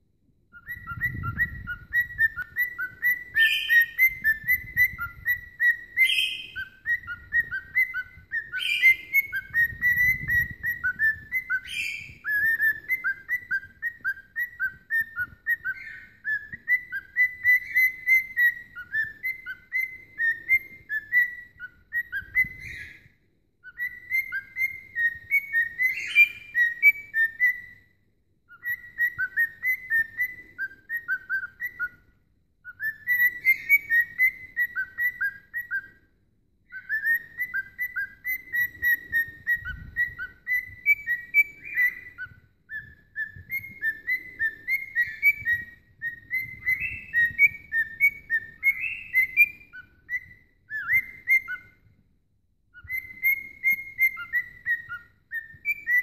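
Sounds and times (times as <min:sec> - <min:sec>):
cockatiel whistling: 0:00.5 - 0:36.1, 0:36.7 - 0:52.0, 0:52.7 - 0:56.0.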